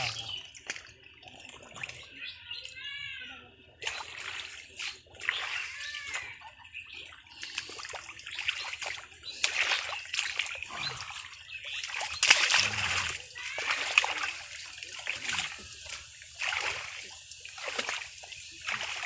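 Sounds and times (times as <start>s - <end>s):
water splashing and sloshing: 0.0s - 3.0s, 3.6s - 19.0s.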